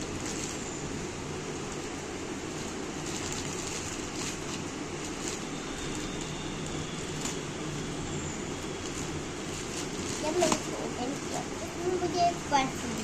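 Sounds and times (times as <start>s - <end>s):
plastic wrapping crinkling: 0.0s - 12.2s
faint high whine: 0.0s - 13.0s.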